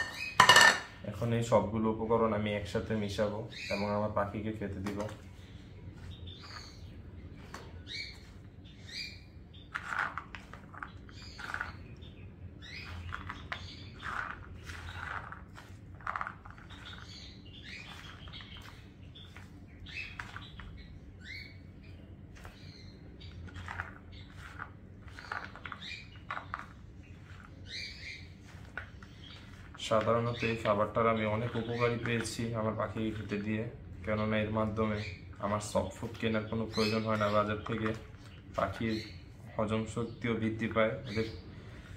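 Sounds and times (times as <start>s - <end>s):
pet birds chirping: 0.0s - 0.7s, 2.7s - 4.4s, 5.0s - 41.9s.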